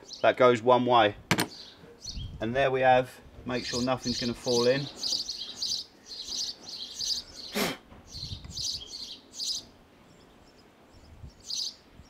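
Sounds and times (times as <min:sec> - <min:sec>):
small birds chirping: 0:00.0 - 0:02.8, 0:03.5 - 0:12.0.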